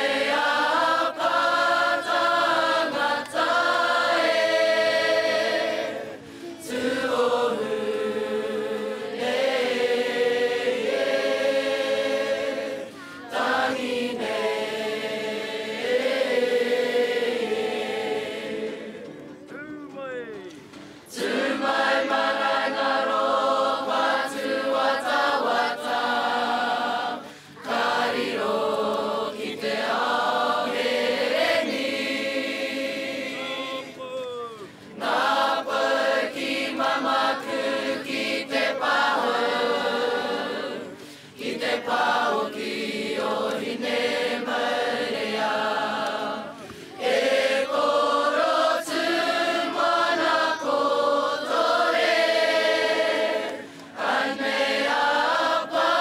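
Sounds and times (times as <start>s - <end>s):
group singing in unison: 0.0s - 19.5s, 20.9s - 34.0s, 34.7s - 56.0s.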